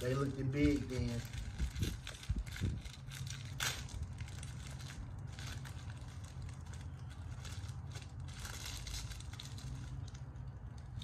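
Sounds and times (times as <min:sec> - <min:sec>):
plastic wrapper crinkling and tearing: 0:00.0 - 0:11.0
low rumble: 0:00.8 - 0:11.0.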